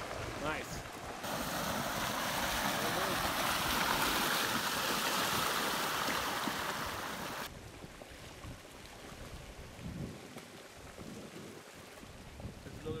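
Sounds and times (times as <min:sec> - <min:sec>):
flood water rushing: 0:00.0 - 0:12.8.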